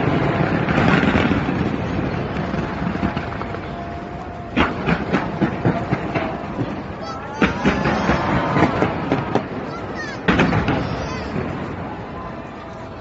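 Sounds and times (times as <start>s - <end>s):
sharp firework bangs: 0.0s - 11.9s
rumbling din of fireworks: 0.0s - 13.0s.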